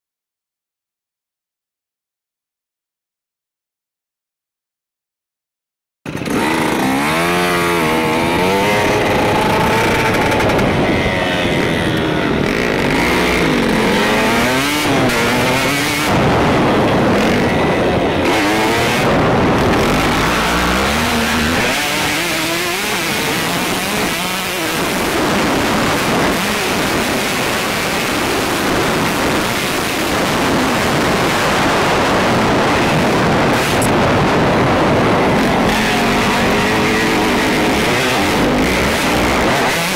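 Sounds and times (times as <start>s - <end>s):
motorcycle engine revving: 6.1s - 39.9s.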